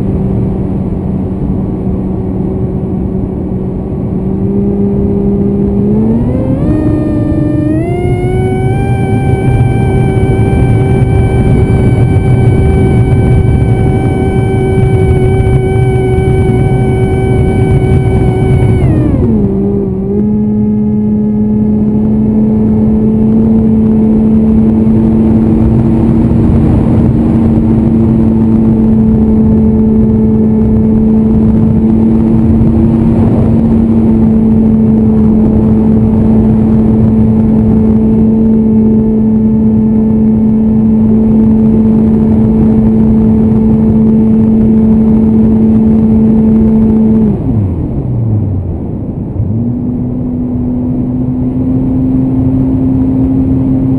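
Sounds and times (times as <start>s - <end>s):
electric motor propeller drone: 3.4s - 53.9s.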